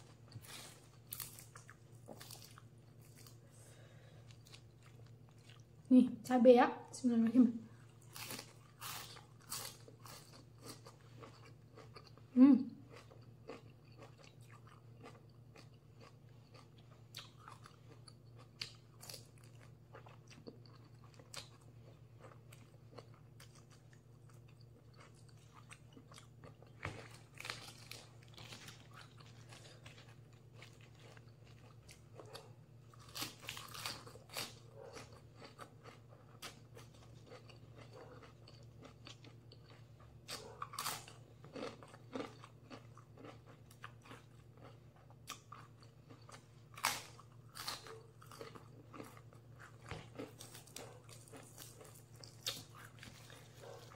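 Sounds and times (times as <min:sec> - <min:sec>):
chewing raw vegetables: 0:00.0 - 0:05.9, 0:07.7 - 0:53.9.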